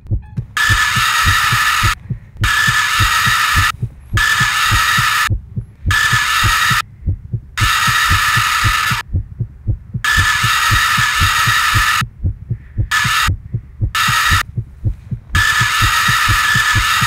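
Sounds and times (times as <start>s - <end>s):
low thumping pulse: 0.0s - 17.0s.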